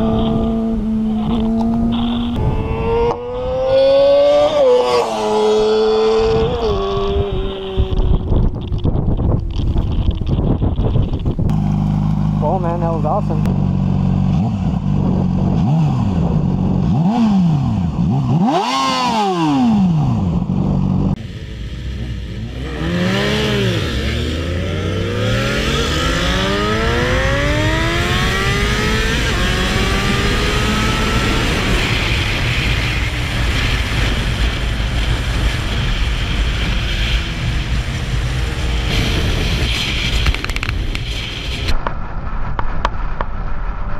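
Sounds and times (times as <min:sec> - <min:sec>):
motorcycle accelerating through gears: 0:00.0 - 0:41.7
motorcycle revving: 0:00.0 - 0:41.9
wind noise: 0:00.0 - 0:43.9.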